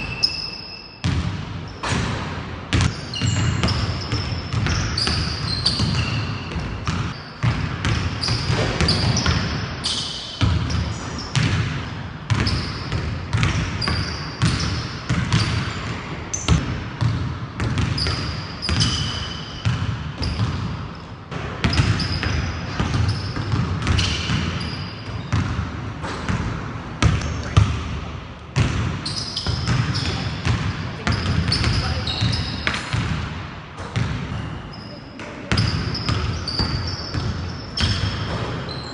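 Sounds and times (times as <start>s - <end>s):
sneakers squeaking on floor: 0.0s - 11.7s, 12.3s - 27.8s, 28.6s - 33.2s, 33.8s - 38.9s.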